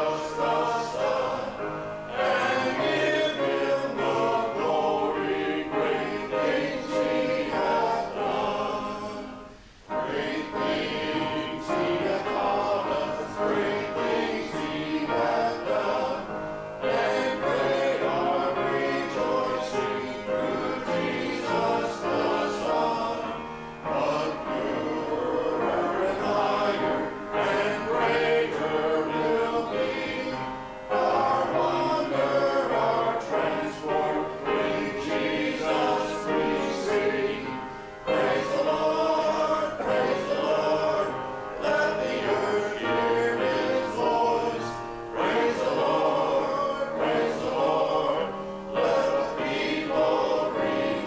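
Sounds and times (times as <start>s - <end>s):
congregation and choir singing hymn: 0.0s - 51.0s.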